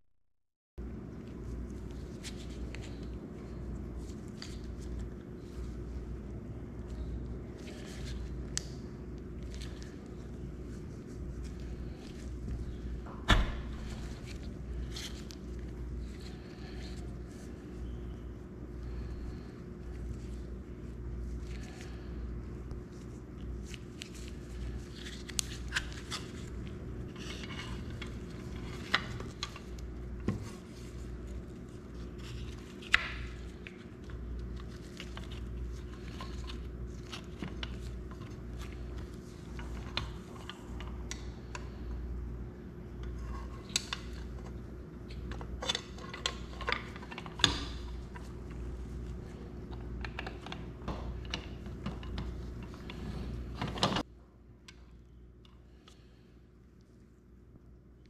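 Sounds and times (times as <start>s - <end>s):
steady low hum: 0.8s - 58.0s.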